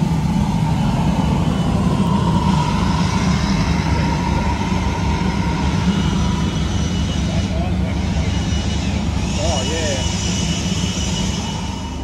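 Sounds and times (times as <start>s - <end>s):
race car engine rumbling: 0.0s - 12.0s.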